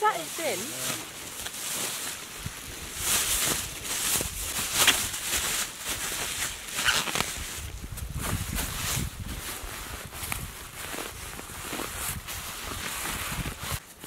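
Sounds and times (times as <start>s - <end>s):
plastic bag rustling: 0.0s - 14.0s.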